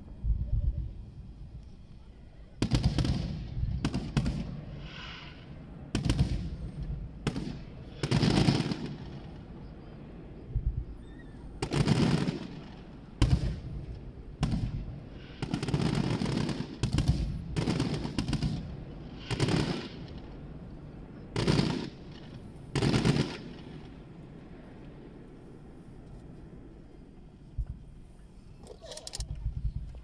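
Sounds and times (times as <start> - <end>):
fireworks booming and crackling: 2.5 - 28.1.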